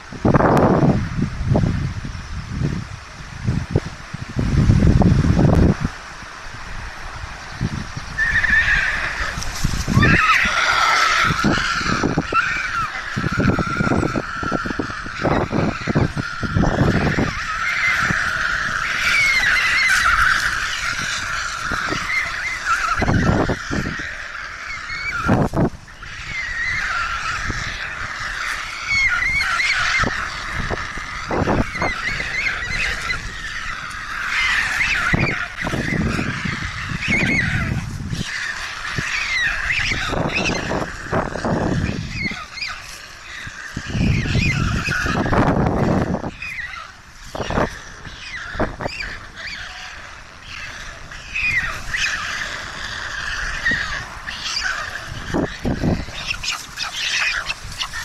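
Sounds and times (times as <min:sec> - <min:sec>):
stork chicks begging calls: 0:07.0 - 0:58.0.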